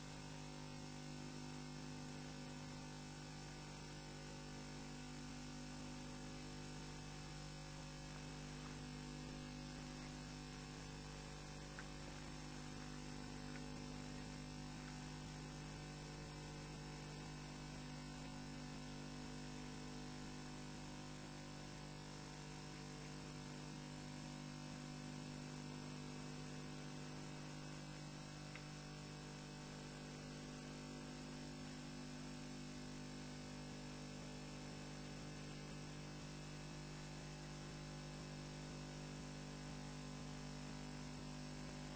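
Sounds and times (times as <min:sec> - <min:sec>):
electrical hum and hiss: 0:00.0 - 0:41.9.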